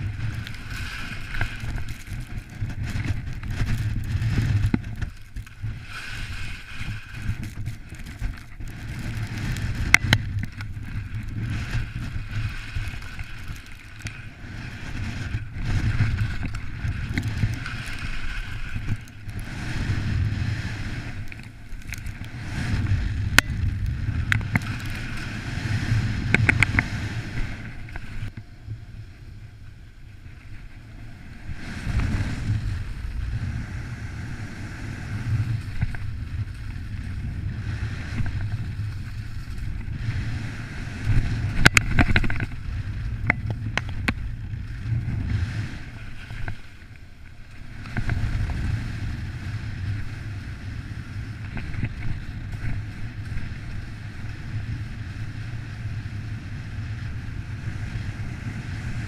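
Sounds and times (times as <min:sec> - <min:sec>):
skis sliding across snow: 0:00.0 - 0:59.0
wind buffeting the microphone: 0:00.0 - 0:59.0.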